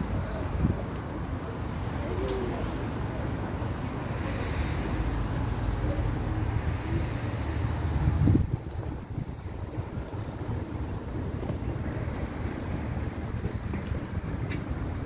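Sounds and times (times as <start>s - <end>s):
street traffic hiss: 0.0s - 15.0s
wind buffeting the microphone: 0.0s - 15.0s.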